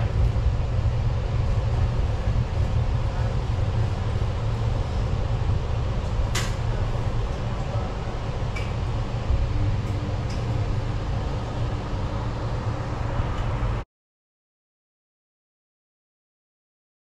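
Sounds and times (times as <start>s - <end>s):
metro train braking rumble: 0.0s - 13.8s.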